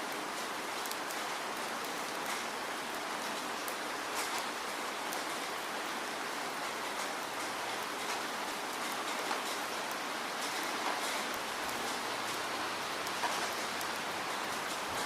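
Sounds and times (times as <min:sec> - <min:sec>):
steady falling rain: 0:00.0 - 0:15.0
raindrop ticks: 0:00.4 - 0:05.6, 0:06.6 - 0:15.0.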